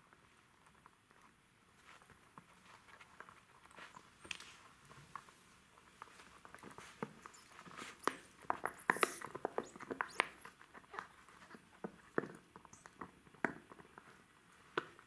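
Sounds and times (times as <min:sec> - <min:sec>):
paws tapping on mat: 0:01.1 - 0:15.0.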